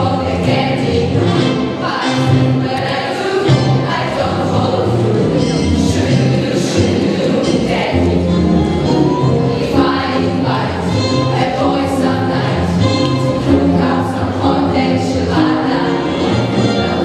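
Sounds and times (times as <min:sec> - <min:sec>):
girls singing together: 0:00.0 - 0:08.3, 0:09.6 - 0:17.0
instrumental accompaniment with bass: 0:00.0 - 0:17.0.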